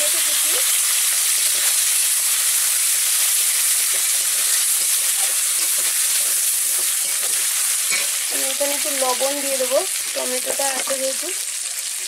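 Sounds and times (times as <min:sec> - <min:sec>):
tomato frying in hot oil: 0:00.0 - 0:12.0.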